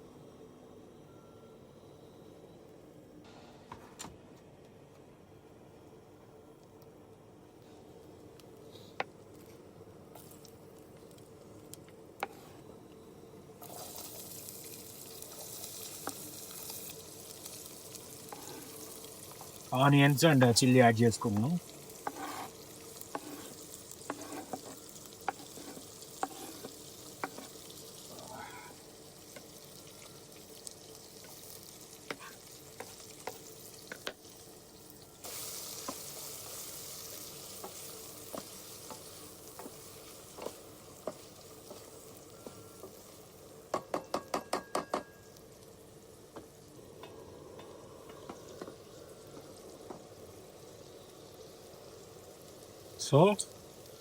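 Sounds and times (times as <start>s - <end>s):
onions sizzling in oil: 10.0s - 54.0s.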